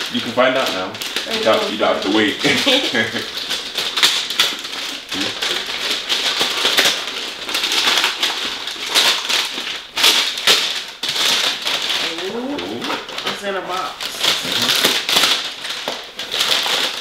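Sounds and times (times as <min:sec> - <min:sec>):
gift bag and tissue paper rustling: 0:00.0 - 0:17.0.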